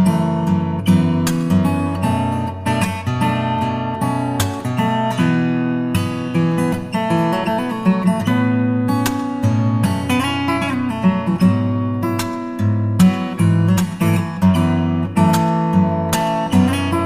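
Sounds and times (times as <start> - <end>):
plucked guitar notes: 0.0 - 17.0
strummed acoustic guitar: 0.0 - 17.0.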